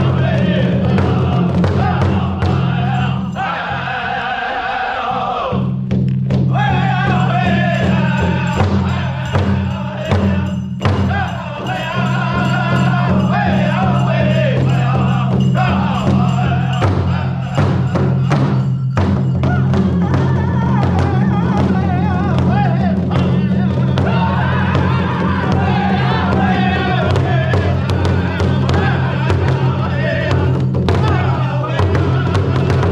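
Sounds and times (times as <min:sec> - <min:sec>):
large drum beating: 0:00.0 - 0:03.7, 0:05.6 - 0:32.9
men singing in chorus: 0:00.0 - 0:05.8, 0:06.5 - 0:32.9.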